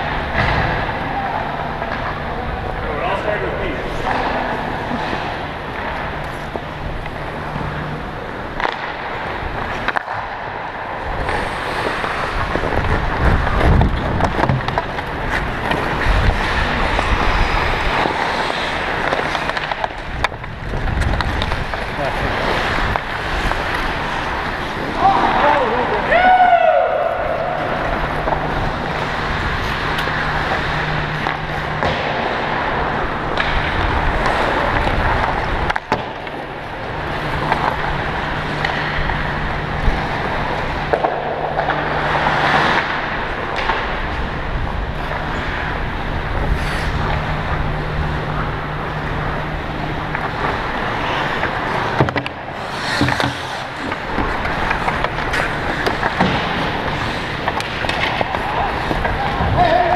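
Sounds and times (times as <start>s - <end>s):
steady low hum: 0.0s - 26.1s, 26.7s - 59.9s
skate blades scraping on ice: 0.0s - 26.3s, 27.0s - 59.9s.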